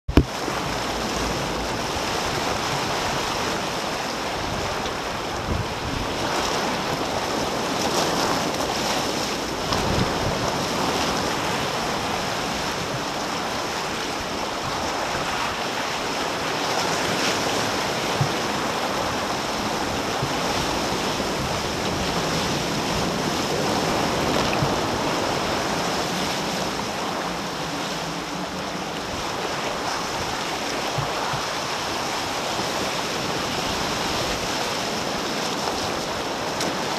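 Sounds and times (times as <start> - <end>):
water rushing along hull: 0.1 - 36.9.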